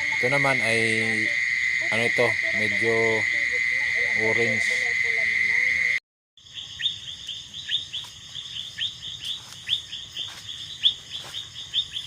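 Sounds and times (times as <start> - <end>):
high insect drone: 0.0 - 12.0
short high cricket chirps: 0.0 - 12.0.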